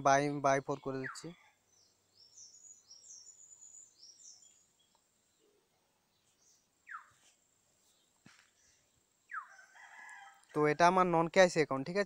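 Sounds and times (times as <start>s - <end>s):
faint high bird chirps: 0.5s - 10.4s.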